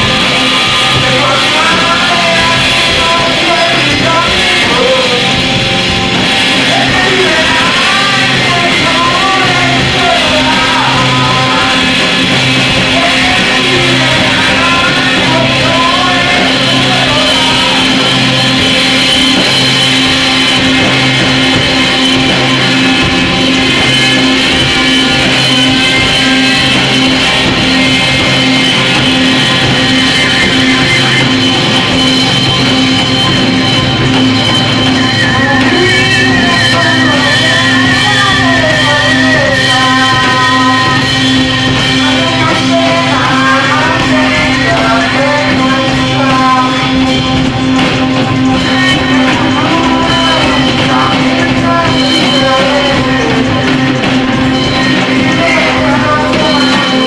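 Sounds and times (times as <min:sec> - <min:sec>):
distorted noise music: 0:00.0 - 0:57.0.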